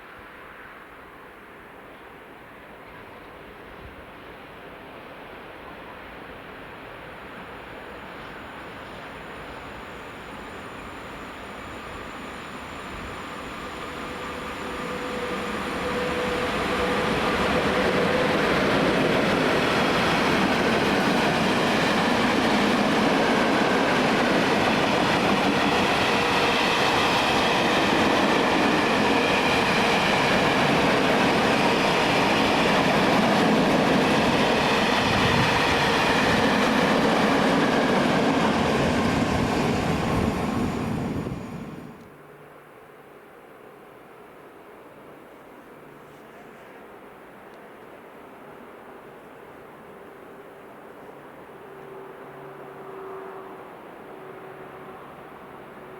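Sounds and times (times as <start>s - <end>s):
freight train passing: 0.0s - 45.9s, 46.6s - 55.9s.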